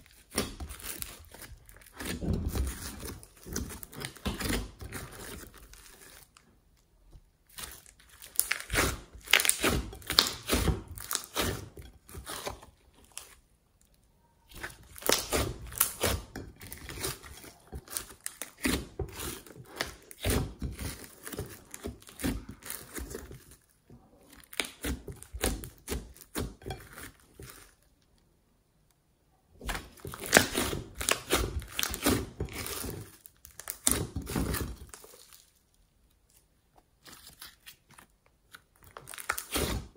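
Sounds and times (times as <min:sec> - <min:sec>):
slime crackling and popping: 0:00.0 - 0:28.1, 0:29.6 - 0:39.9.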